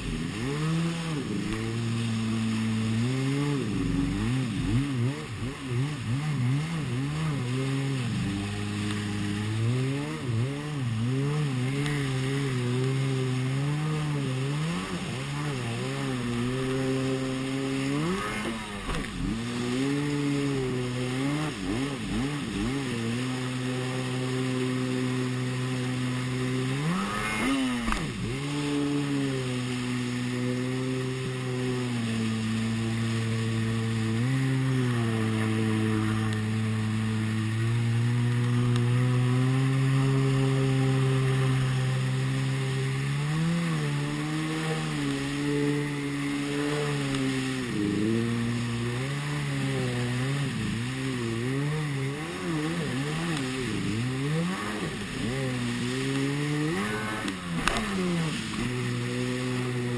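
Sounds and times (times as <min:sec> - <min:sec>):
jet ski engine running: 0:00.0 - 0:59.9
rushing water spray: 0:00.0 - 0:59.9.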